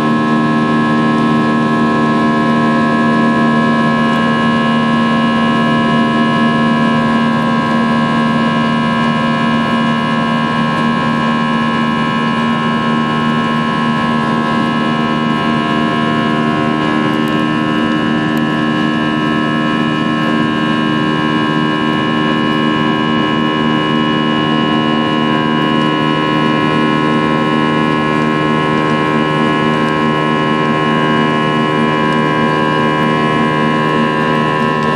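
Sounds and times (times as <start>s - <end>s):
jet engine cabin drone: 0.0s - 34.9s
whining tones: 0.0s - 34.9s.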